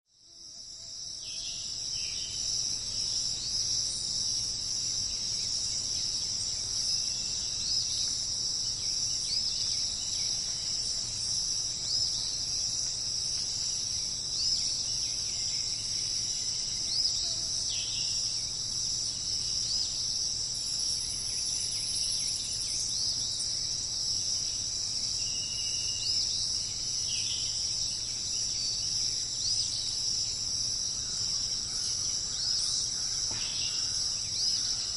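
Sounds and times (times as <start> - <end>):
crickets chirring: 0.2 - 34.9.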